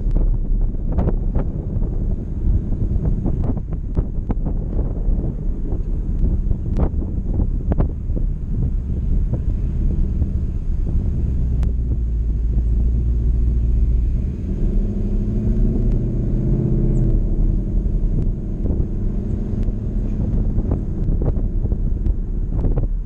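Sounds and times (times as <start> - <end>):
car engine low rumble: 0.0 - 23.0.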